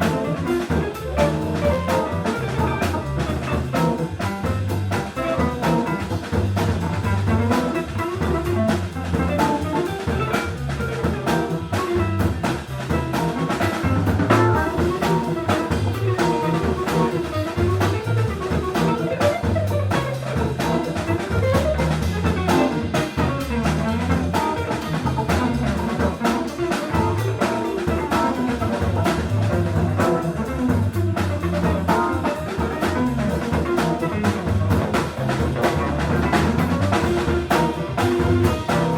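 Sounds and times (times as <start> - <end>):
jazz-funk music: 0.0 - 38.9.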